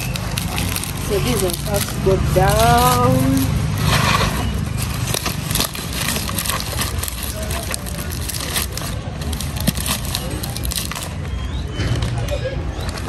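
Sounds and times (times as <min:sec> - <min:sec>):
dry leaves crackling: 0:00.0 - 0:13.0.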